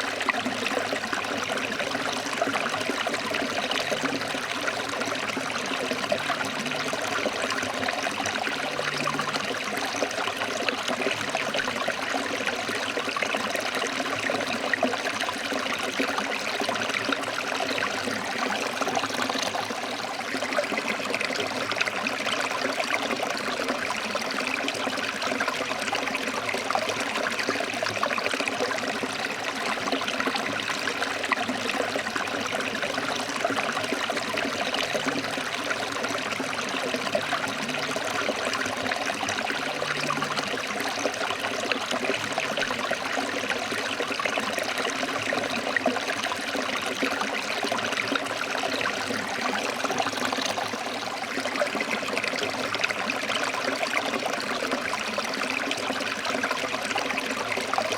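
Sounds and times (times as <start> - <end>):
stream running over rocks: 0.0 - 57.9.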